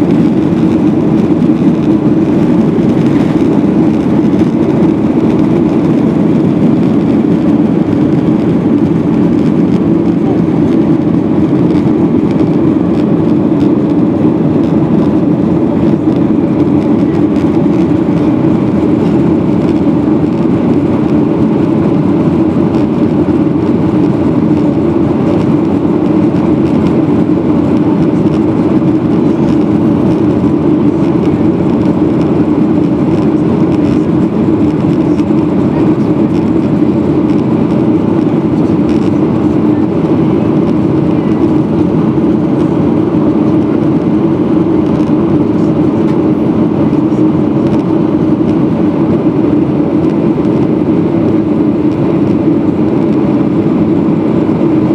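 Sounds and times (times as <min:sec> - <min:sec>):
jet engines droning: 0:00.0 - 0:54.9.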